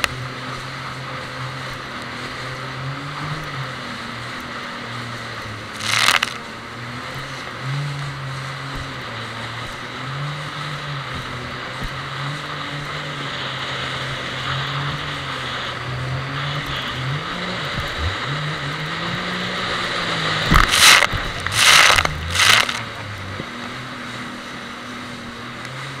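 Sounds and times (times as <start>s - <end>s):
jet ski engine running: 0.0s - 26.0s
spray rushing over waves: 0.0s - 26.0s
water and wind hiss: 0.0s - 26.0s.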